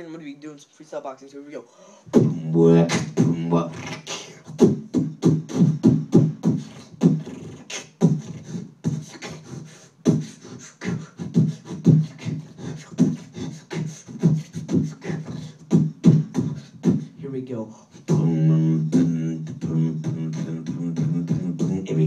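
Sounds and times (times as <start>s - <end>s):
beatboxing into a microphone: 2.1s - 22.0s.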